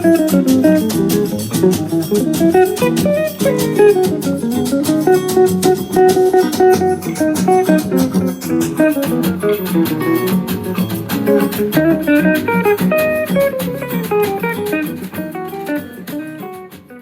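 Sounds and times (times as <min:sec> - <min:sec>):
jazz guitar music: 0:00.0 - 0:17.0.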